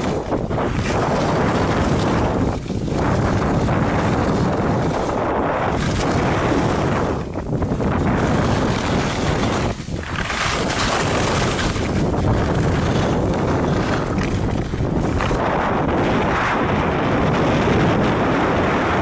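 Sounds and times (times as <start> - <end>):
skis sliding on packed snow: 0.0 - 19.0
wind rushing over microphone: 0.0 - 19.0.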